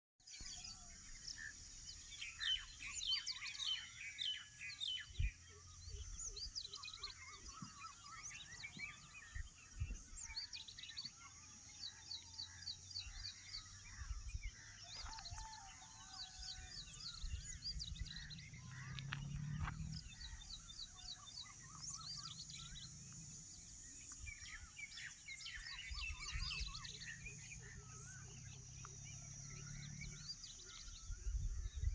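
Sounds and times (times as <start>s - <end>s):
birds chirping and calling: 0.3s - 31.9s.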